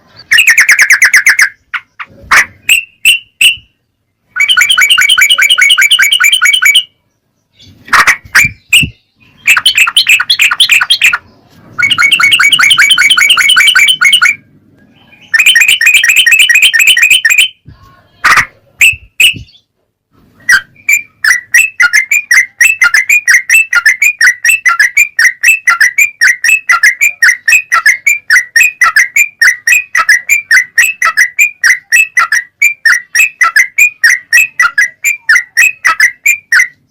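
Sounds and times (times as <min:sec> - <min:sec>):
bird repeated whistled notes: 0:00.0 - 0:06.9, 0:07.6 - 0:17.7, 0:18.4 - 0:19.7, 0:20.3 - 0:36.9
bird rapid chattering: 0:00.0 - 0:19.7, 0:20.3 - 0:36.9.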